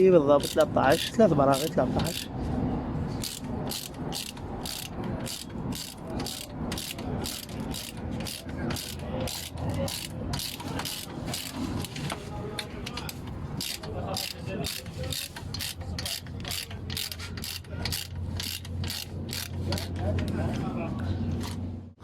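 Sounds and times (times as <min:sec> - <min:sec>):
ratchet wrench clicking: 0:00.4 - 0:02.3, 0:03.2 - 0:12.0, 0:12.8 - 0:20.3.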